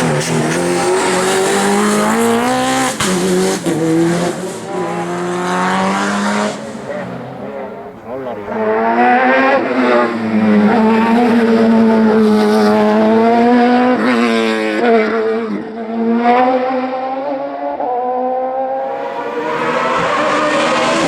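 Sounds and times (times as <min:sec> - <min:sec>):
racing car engine at high revs: 0:00.0 - 0:21.0.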